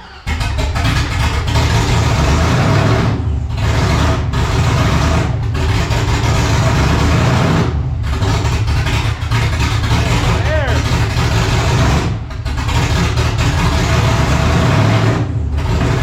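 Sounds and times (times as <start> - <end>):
car engine running unevenly: 0.0 - 16.0.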